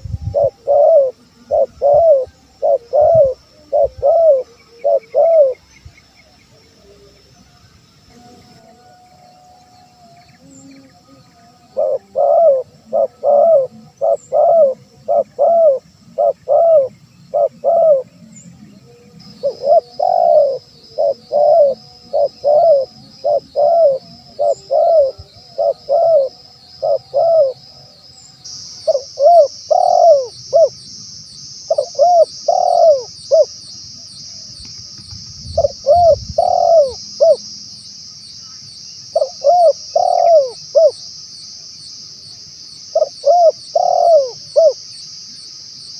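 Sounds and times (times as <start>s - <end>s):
dove cooing: 0.0s - 7.2s, 8.2s - 27.9s, 28.8s - 30.8s, 31.7s - 33.6s, 35.0s - 37.4s, 39.1s - 41.1s, 42.9s - 44.8s.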